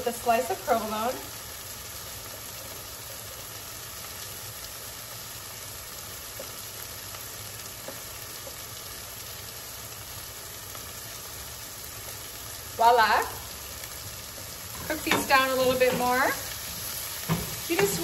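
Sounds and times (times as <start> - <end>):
onions and mushrooms sizzling: 0.0 - 18.0.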